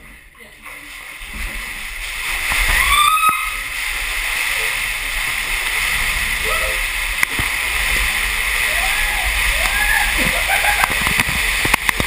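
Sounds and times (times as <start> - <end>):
water sloshing inside ball: 0.0 - 12.0.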